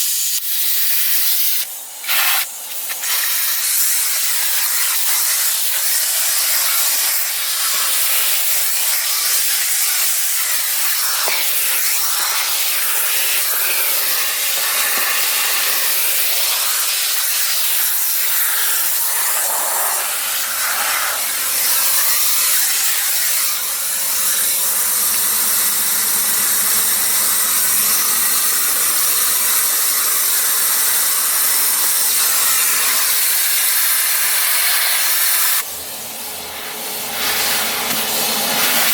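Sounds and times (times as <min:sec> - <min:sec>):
vacuum cleaner hissing: 0:00.0 - 0:38.9.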